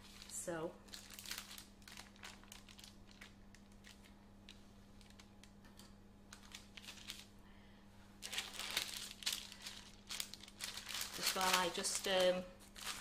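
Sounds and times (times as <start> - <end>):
baking paper rustling: 0.0 - 5.4, 6.3 - 7.4, 8.2 - 13.0.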